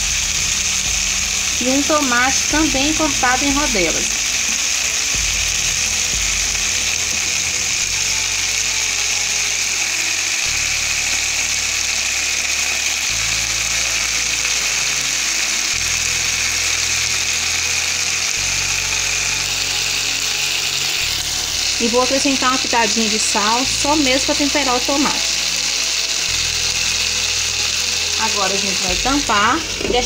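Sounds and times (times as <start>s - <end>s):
background music: 0.0s - 30.0s
fish sizzling in a pan: 0.0s - 30.0s.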